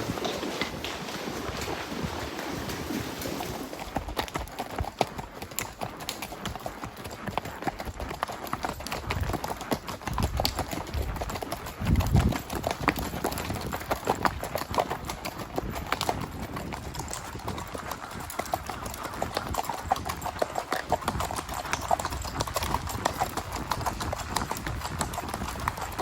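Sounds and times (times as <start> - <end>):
horse hooves clip-clopping: 0.0 - 26.0.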